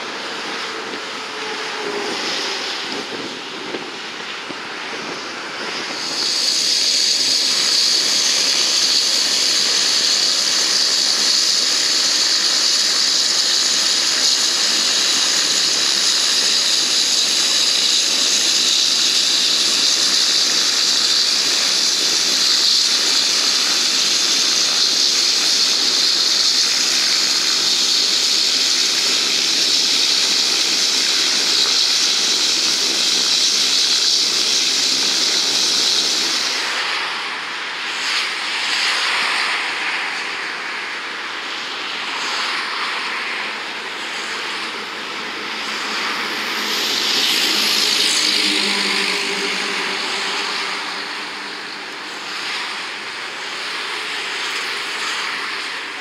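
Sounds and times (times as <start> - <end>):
faint turbine whine: 0.0 - 56.0
turboprop engines hissing: 0.0 - 56.0.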